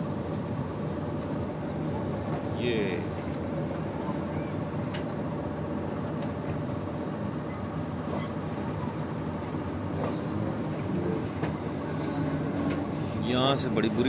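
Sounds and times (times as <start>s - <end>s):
faint train clicks: 0.0s - 14.0s
train rumbling and humming: 0.0s - 14.0s.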